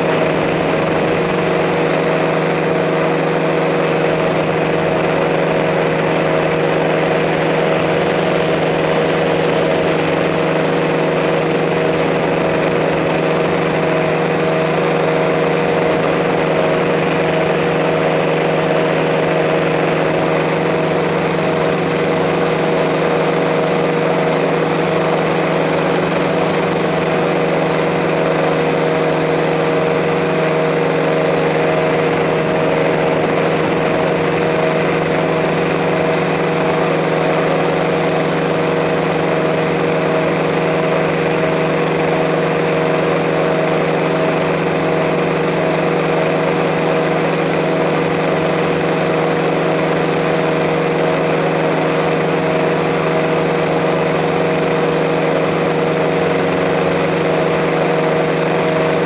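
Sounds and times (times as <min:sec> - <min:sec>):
drone propellers buzzing: 0:00.0 - 0:59.0.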